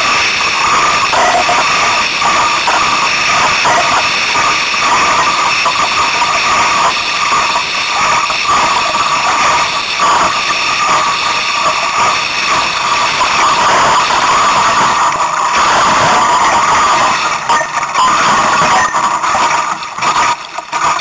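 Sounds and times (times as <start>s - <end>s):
water rushing along hull: 0.0s - 21.0s.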